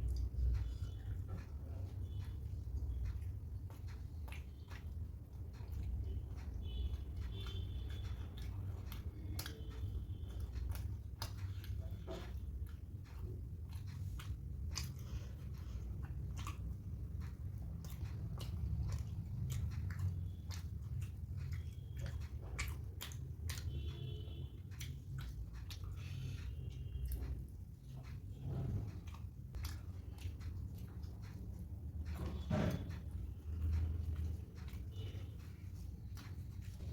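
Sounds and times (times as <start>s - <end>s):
low steady hum: 0.0s - 36.9s
person chewing food: 0.0s - 36.9s.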